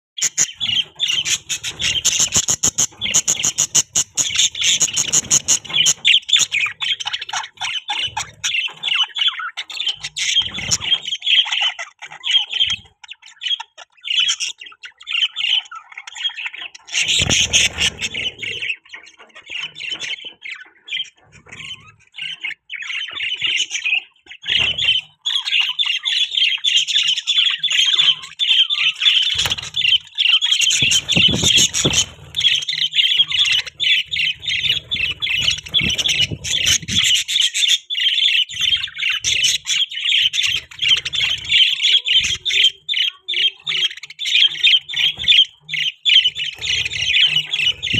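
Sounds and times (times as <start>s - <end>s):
budgerigars chirping and squawking: 0.2s - 47.9s.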